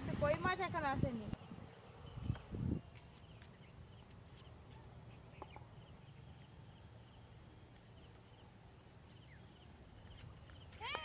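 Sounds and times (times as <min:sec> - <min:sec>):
distant bird chirps: 0:00.9 - 0:11.0.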